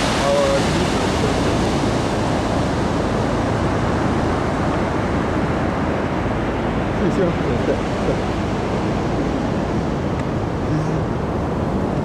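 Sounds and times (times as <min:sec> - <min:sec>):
waves breaking on sandy beach: 0:00.0 - 0:12.0
wind on microphone: 0:00.0 - 0:12.0.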